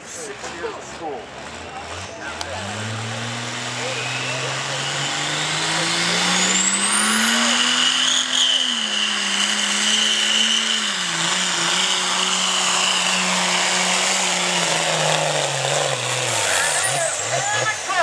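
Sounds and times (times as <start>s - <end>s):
diesel engine at high revs: 0.0s - 18.0s
high turbo whine: 0.0s - 18.0s.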